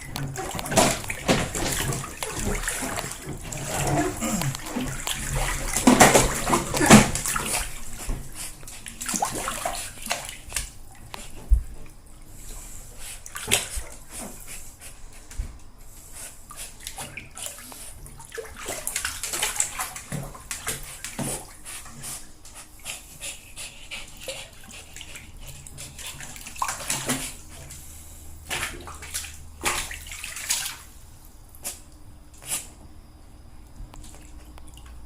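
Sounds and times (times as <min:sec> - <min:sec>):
dog splashing in bathtub: 0:00.0 - 0:12.6, 0:13.2 - 0:14.6, 0:16.5 - 0:31.1.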